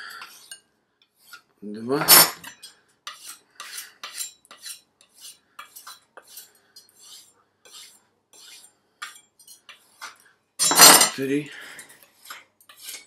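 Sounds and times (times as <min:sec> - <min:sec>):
knife scraping on strop: 0:00.0 - 0:13.0.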